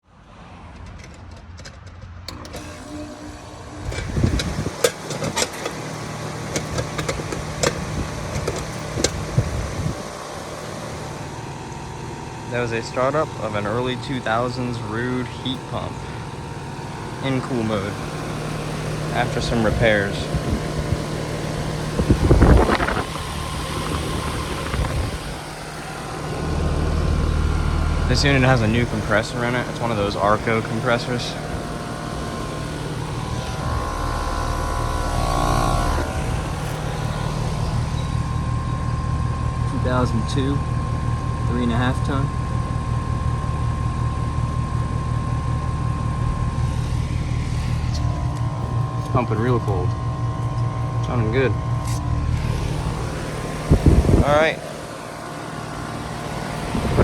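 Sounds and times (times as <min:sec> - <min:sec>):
condenser fan whooshing: 0:00.0 - 0:57.0
heat pump humming: 0:00.0 - 0:57.0.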